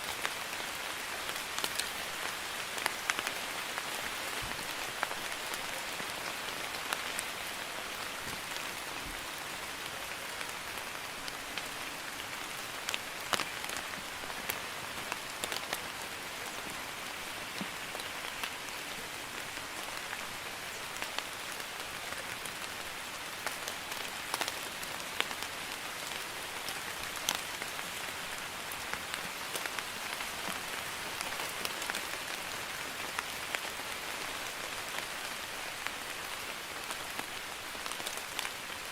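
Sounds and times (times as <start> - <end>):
light rain falling: 0.0 - 38.9.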